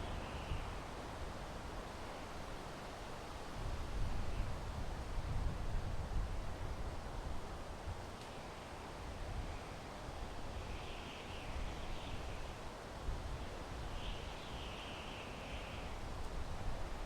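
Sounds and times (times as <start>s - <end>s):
wind rushing through pine trees: 0.0s - 17.0s.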